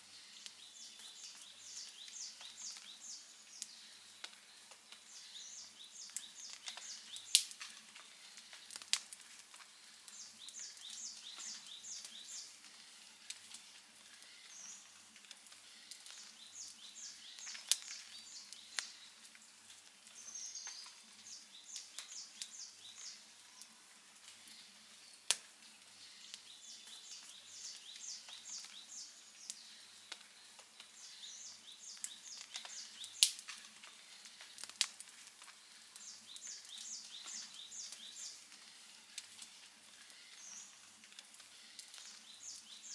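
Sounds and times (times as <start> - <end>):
wood fire crackling: 0.1 - 42.9.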